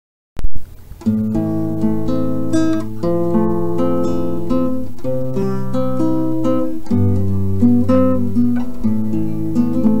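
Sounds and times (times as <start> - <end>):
acoustic guitar music: 0.4 - 10.0.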